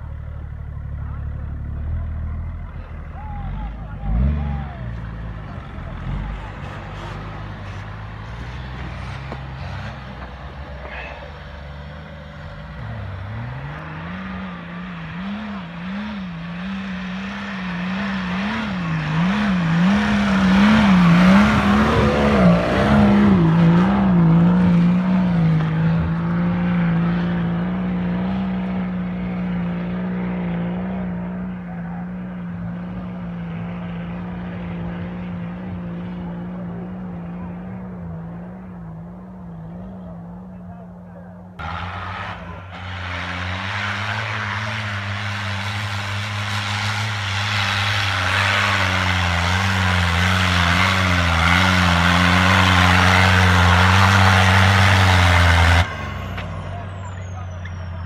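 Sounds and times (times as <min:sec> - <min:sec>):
engine revving in deep snow: 0:00.0 - 0:40.9, 0:41.6 - 0:58.0.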